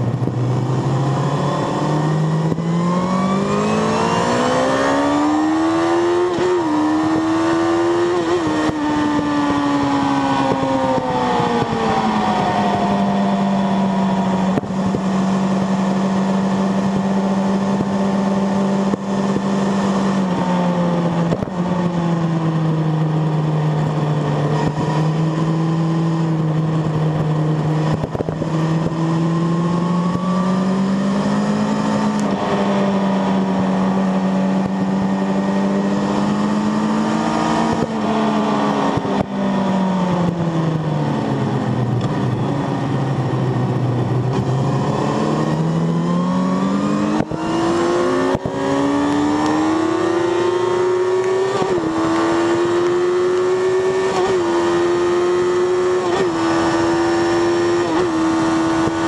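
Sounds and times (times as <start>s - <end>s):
wind noise: 0.0s - 23.0s, 23.8s - 59.0s
motorcycle engine at high revs: 0.0s - 59.0s.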